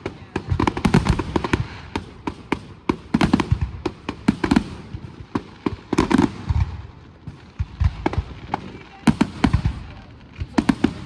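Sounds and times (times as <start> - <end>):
fireworks bangs: 0.0 - 11.0
heavy fireworks booms: 0.0 - 11.0.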